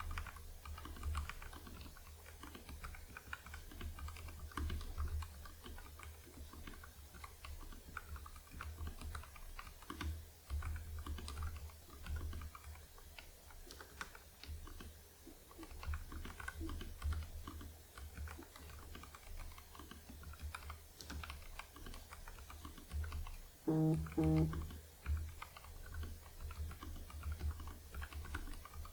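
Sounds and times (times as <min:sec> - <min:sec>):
mechanical keyboard typing: 0:00.0 - 0:28.9.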